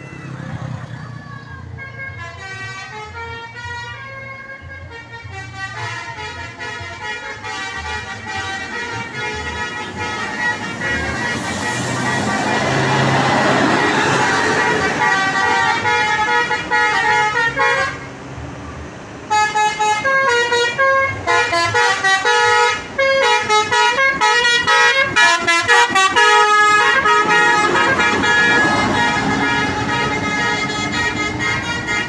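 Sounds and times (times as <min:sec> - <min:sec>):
multi-tone bus horns playing tune: 0:01.6 - 0:18.3, 0:19.2 - 0:32.0.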